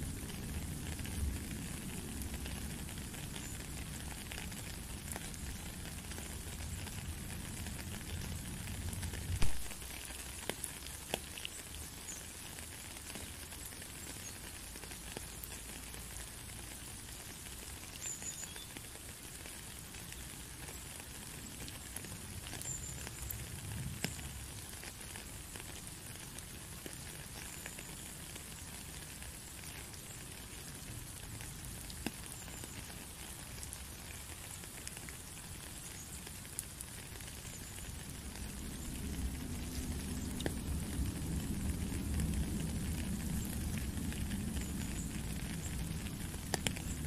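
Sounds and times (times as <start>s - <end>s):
rain falling on puddle: 0.0s - 47.0s.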